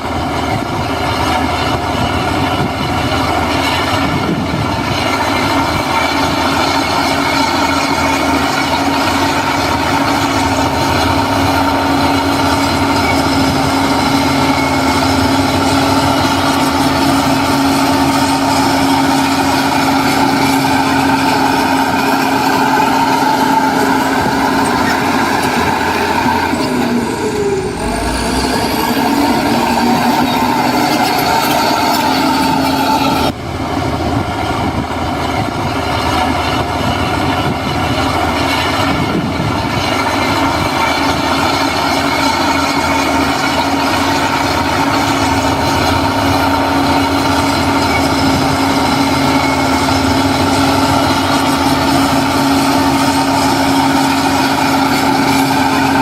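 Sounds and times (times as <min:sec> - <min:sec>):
diesel construction machinery running: 0:00.0 - 0:56.0
pitched whine: 0:00.0 - 0:56.0.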